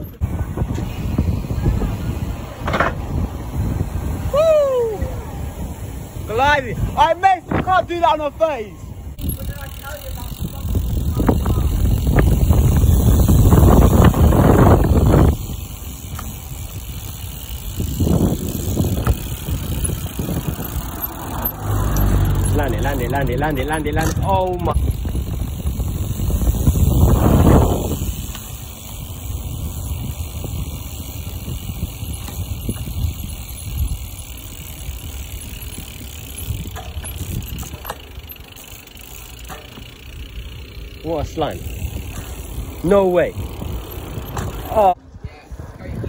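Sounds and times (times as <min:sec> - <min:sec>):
wind on microphone: 0:00.0 - 0:07.8, 0:08.7 - 0:38.0, 0:41.6 - 0:46.0
bicycle tyre road noise: 0:00.0 - 0:46.0.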